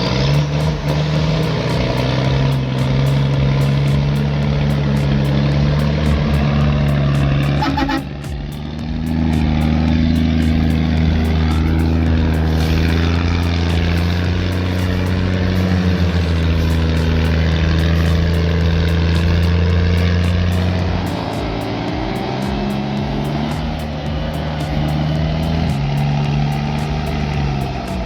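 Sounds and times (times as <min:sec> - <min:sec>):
heavy vehicle engine drone: 0:00.0 - 0:28.0.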